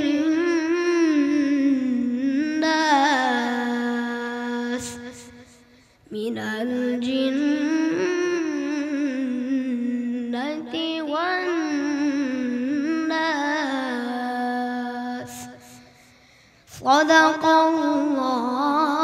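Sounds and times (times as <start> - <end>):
boy chanting melodically: 0.0 - 19.0.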